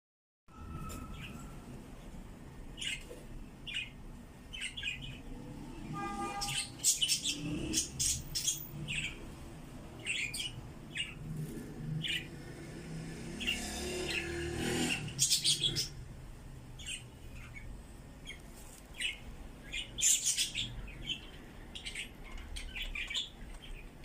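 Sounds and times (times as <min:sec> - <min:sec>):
small birds chirping: 0:02.6 - 0:16.0, 0:16.7 - 0:24.0.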